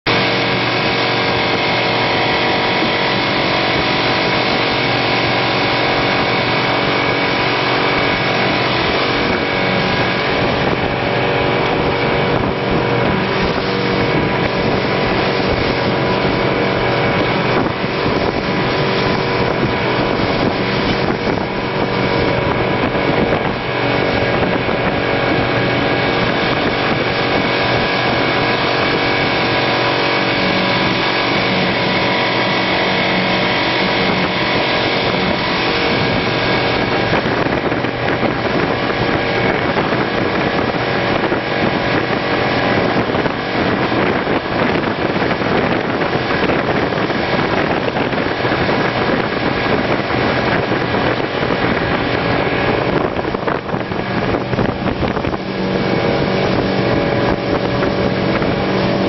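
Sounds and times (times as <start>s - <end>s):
motorboat engine running: 0.0s - 59.0s
wind noise on microphone: 0.0s - 59.0s.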